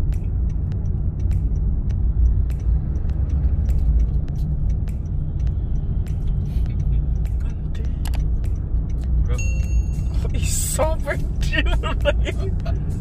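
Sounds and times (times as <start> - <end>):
engine and road noise rumble: 0.0 - 13.0
light ticks: 0.0 - 13.0.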